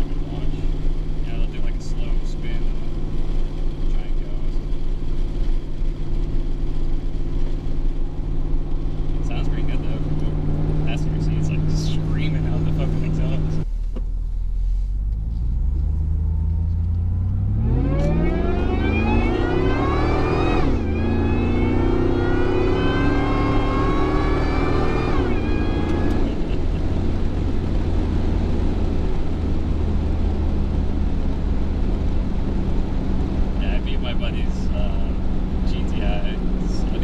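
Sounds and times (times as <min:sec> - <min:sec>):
truck engine at full throttle: 0:00.0 - 0:13.7, 0:15.1 - 0:37.0.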